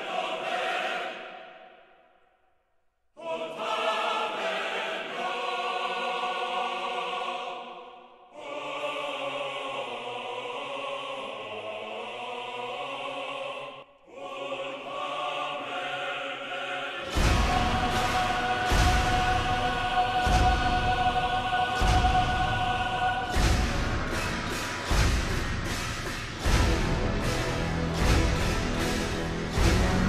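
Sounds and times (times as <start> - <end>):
choir singing held chords: 0.0 - 2.2, 3.1 - 30.0.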